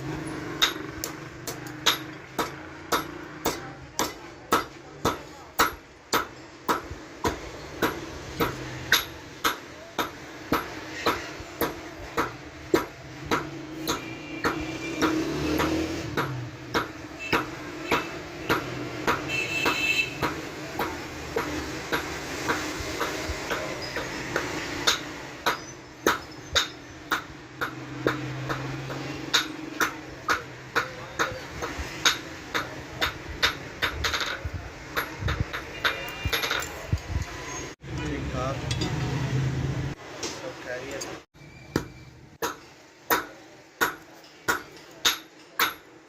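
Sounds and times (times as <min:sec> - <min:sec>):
hammer striking metal on anvil: 0:00.2 - 0:36.9, 0:40.9 - 0:46.0.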